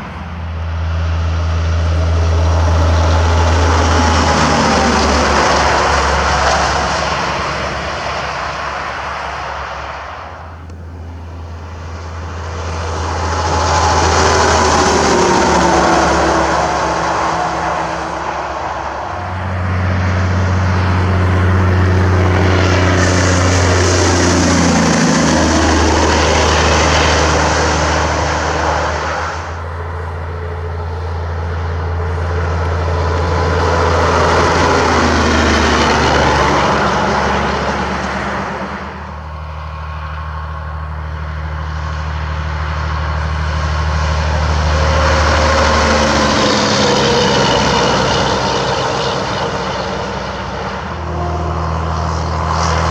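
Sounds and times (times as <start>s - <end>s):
trucks passing on highway: 0.0s - 52.9s.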